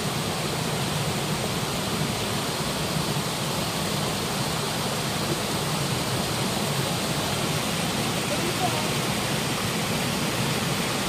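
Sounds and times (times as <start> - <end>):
waterfall pouring: 0.0 - 11.0.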